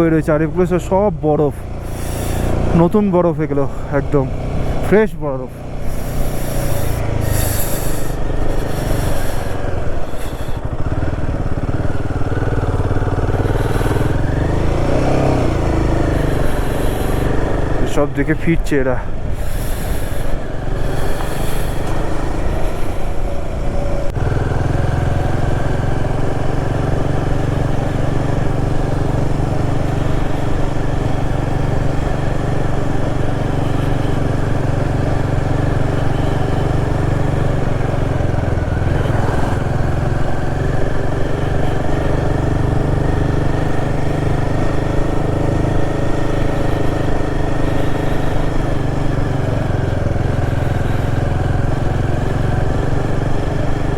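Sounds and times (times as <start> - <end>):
motorcycle engine under load: 0.0 - 53.9.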